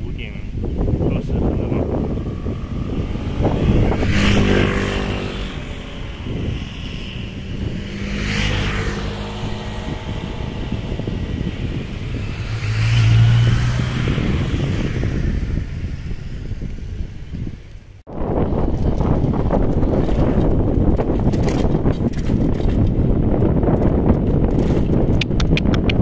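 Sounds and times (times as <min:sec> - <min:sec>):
wind rumble on microphone: 0:00.0 - 0:26.0
motor vehicles passing: 0:00.2 - 0:26.0.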